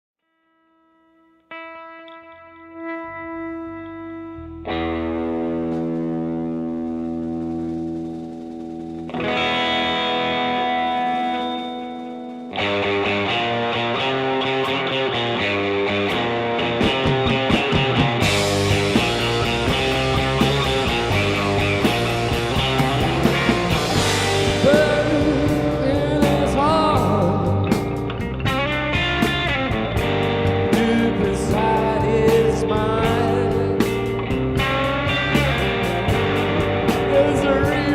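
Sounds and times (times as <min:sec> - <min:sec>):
distorted electric guitar chords: 0:00.9 - 0:37.9.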